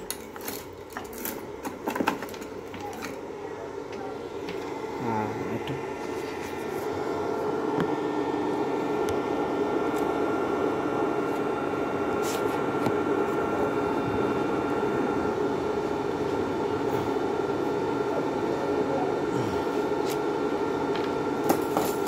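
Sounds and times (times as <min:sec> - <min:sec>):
high steady whine tones: 0:00.0 - 0:22.0
steady buzzing hum: 0:00.0 - 0:22.0.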